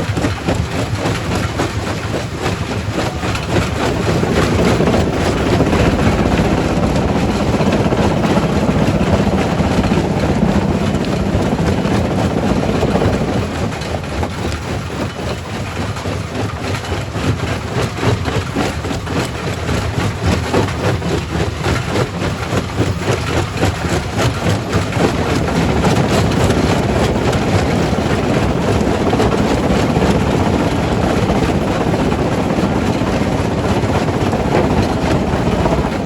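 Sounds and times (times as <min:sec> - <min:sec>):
heavy machinery rumble: 0:00.0 - 0:36.0.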